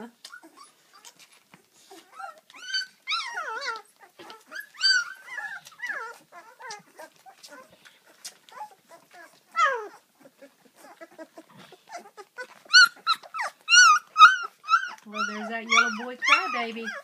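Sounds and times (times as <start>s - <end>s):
puppies whimpering and crying: 0.0s - 17.0s.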